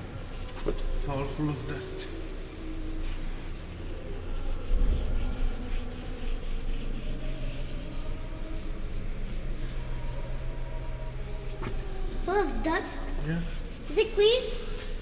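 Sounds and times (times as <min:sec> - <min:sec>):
hand rubbing dusty surface: 0:00.2 - 0:15.0.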